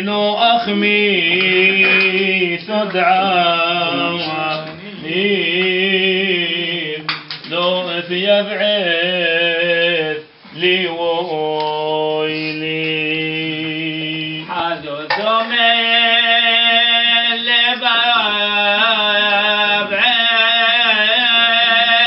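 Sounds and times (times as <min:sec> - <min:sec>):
man chanting a hymn: 0:00.0 - 0:22.0.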